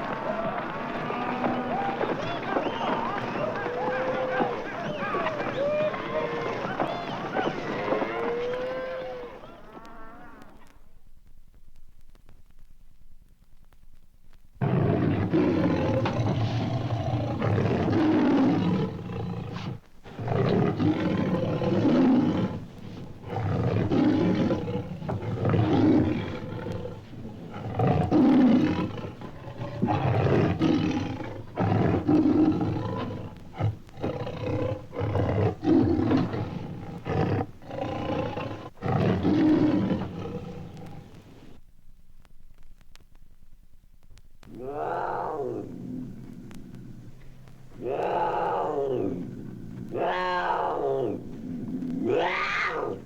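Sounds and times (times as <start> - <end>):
lion roaring: 0.0 - 10.6, 14.6 - 41.6, 44.5 - 53.0.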